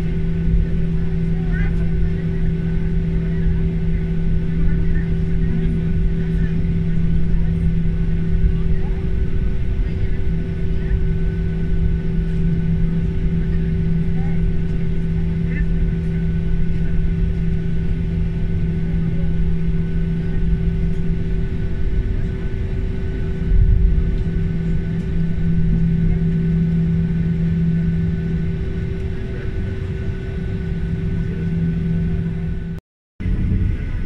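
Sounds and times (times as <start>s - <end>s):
jet engines idling drone: 0.0s - 34.0s.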